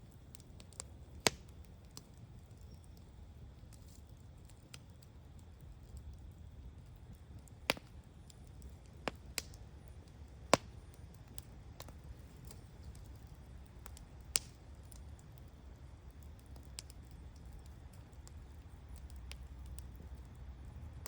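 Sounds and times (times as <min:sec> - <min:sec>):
bonfire crackling and popping: 0:00.0 - 0:21.0
low steady rumble: 0:00.0 - 0:21.0.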